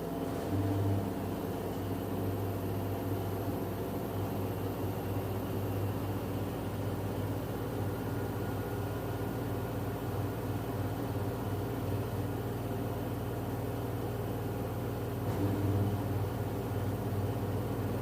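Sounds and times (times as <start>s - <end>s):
washing machine spinning hum: 0.0s - 18.0s.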